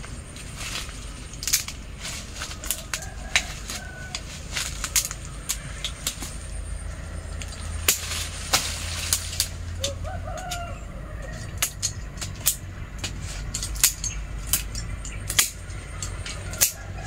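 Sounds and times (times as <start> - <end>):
pruning shears snipping: 0.0 - 17.0.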